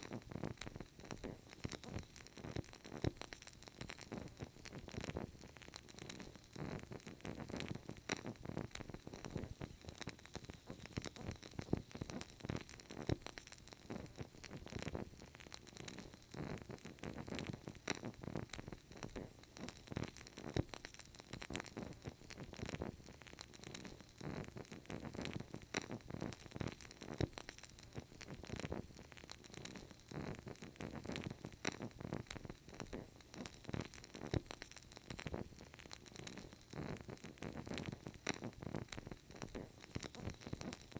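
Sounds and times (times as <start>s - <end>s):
candle crackling: 0.0s - 40.9s.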